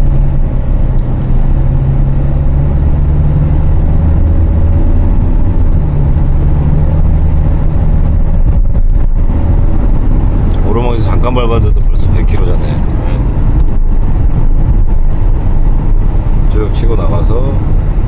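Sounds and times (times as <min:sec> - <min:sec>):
car engine accelerating: 0:00.0 - 0:18.0
road noise: 0:00.0 - 0:18.0.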